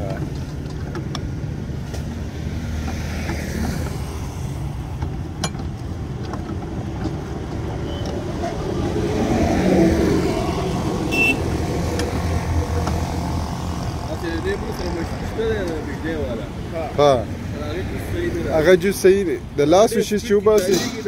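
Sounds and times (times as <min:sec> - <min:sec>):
vehicle engines droning: 0:00.0 - 0:21.0.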